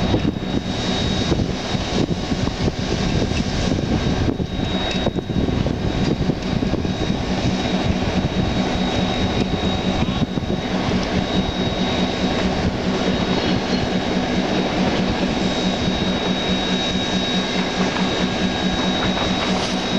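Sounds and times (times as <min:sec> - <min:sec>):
high-pitched whine: 0:00.0 - 0:19.9
machinery drone: 0:00.0 - 0:19.9.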